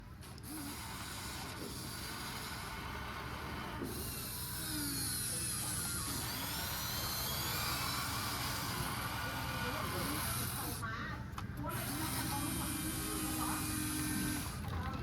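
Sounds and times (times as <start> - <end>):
electric motors whining and grinding: 0.0 - 15.0.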